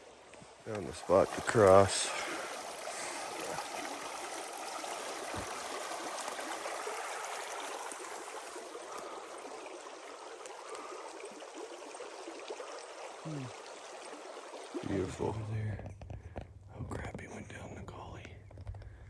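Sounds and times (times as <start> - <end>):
stream running over rocks: 0.0 - 16.6.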